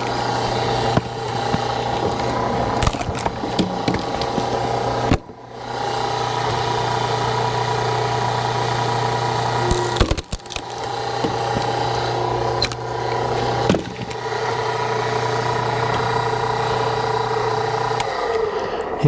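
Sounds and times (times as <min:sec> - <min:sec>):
log splitter humming: 0:00.0 - 0:19.0.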